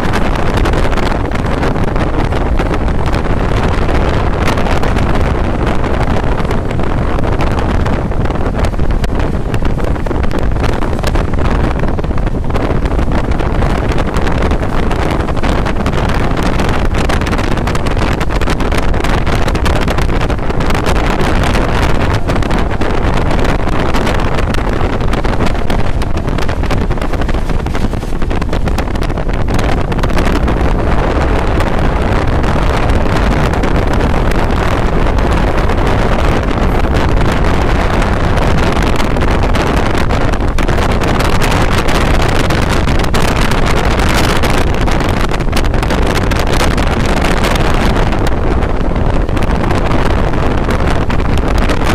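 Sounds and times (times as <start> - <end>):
train running noise: 0.0 - 51.9
wind buffeting microphone: 0.0 - 51.9.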